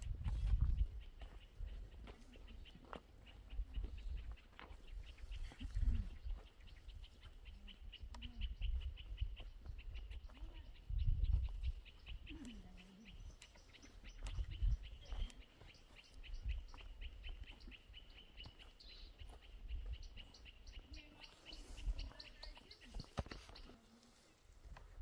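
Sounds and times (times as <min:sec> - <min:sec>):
small bird chirping: 0:00.0 - 0:24.0.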